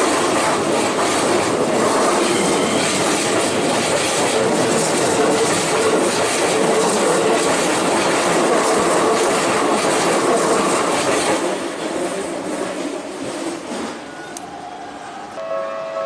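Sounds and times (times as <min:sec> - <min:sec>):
train wheels on rails: 0:00.0 - 0:15.5.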